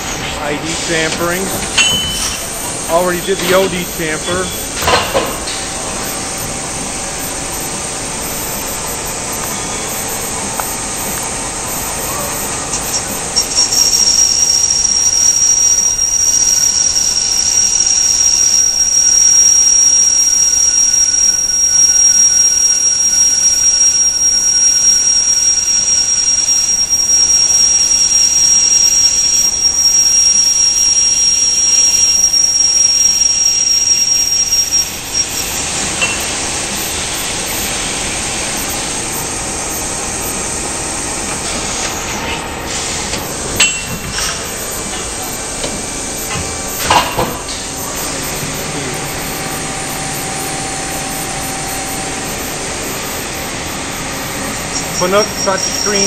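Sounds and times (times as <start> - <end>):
high-pitched cutting squeal: 0.0 - 56.0
lathe running: 0.0 - 56.0.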